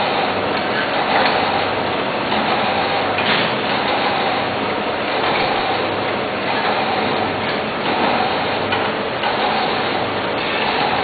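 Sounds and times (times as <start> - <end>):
packing machine running: 0.0 - 11.0.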